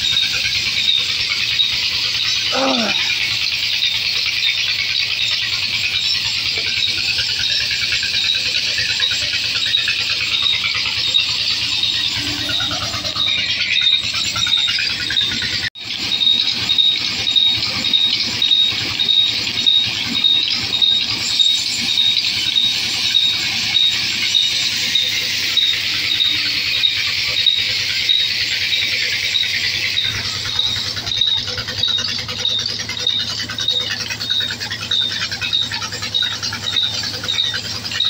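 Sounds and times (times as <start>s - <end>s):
band saw cutting logs: 0.0s - 38.0s.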